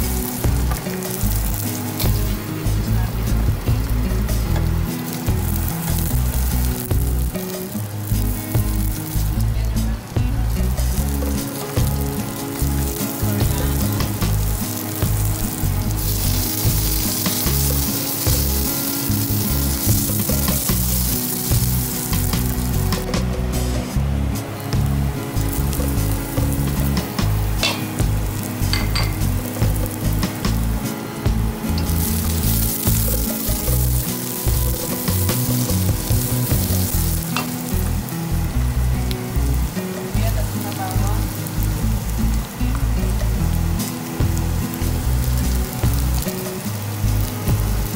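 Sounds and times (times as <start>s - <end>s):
background music: 0.0s - 47.9s
vegetables sizzling in a pan: 0.0s - 47.9s.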